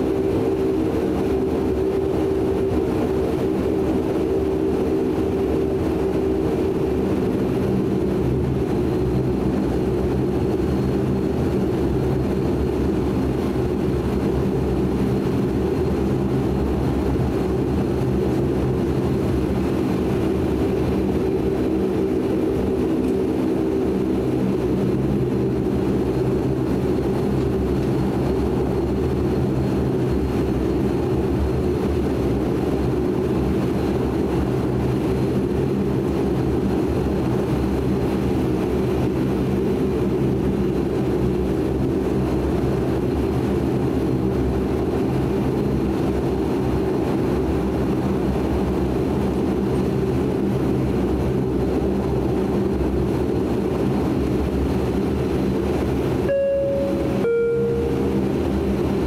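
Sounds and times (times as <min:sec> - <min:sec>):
propeller plane cabin drone: 0:00.0 - 0:59.0.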